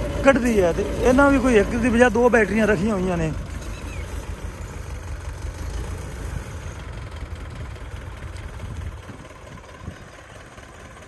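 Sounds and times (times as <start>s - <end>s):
tractor diesel engine rumble: 0.0s - 11.0s.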